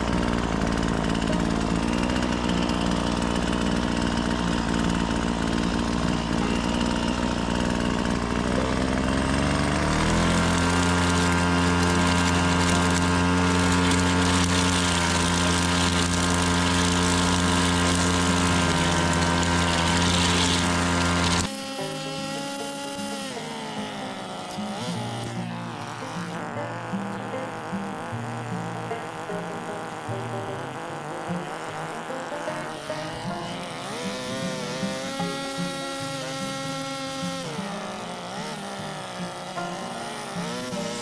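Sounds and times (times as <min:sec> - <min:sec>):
small petrol engine revving: 0:00.0 - 0:41.0.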